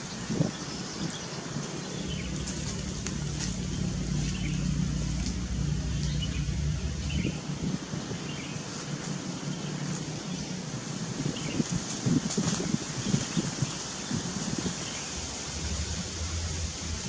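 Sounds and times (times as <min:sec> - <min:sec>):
vehicle engine hum: 0:00.0 - 0:17.0.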